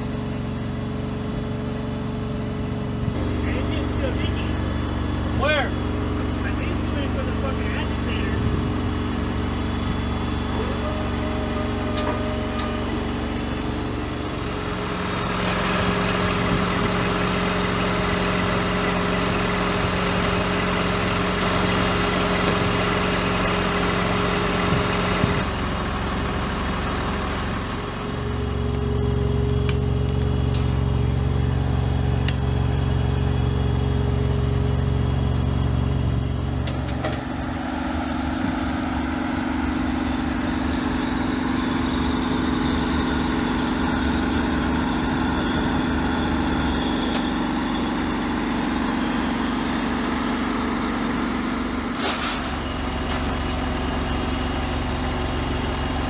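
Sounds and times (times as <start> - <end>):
truck engine and machinery running: 0.0 - 56.0.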